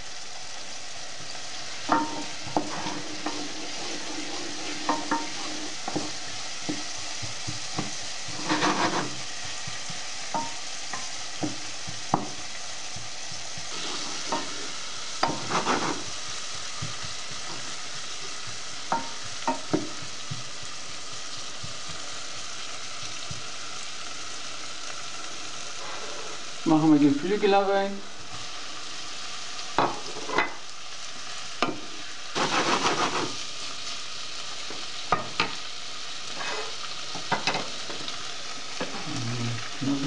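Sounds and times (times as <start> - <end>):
onions sizzling in oil: 0.0 - 40.0.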